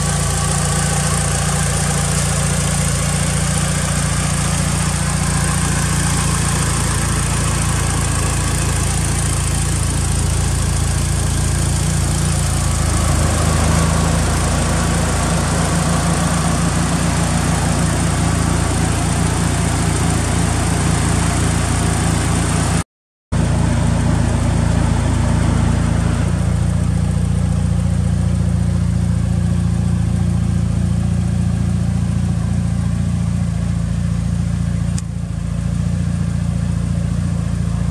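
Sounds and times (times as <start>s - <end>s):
car engine idling: 0.0s - 22.8s, 23.4s - 37.9s.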